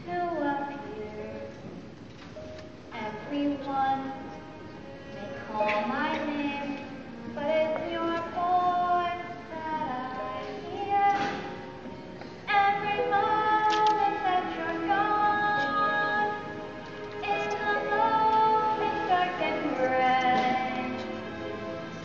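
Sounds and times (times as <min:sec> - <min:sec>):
young woman singing: 0:00.0 - 0:01.6, 0:02.9 - 0:04.5, 0:05.2 - 0:11.8, 0:12.4 - 0:21.3
musical accompaniment: 0:00.0 - 0:22.0.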